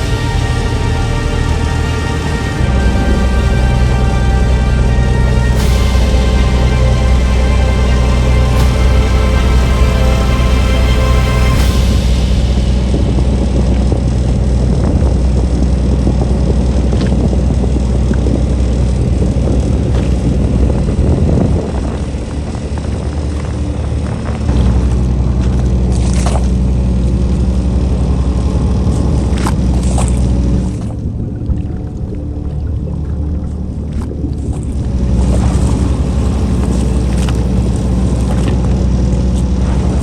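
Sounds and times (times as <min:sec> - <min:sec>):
boat engine running: 0:00.0 - 0:40.0
water around hull: 0:00.0 - 0:40.0.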